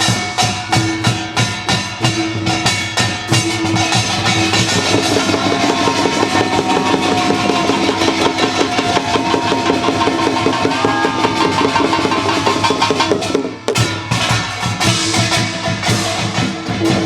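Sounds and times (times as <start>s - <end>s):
fast percussion rhythm: 0.0s - 17.0s.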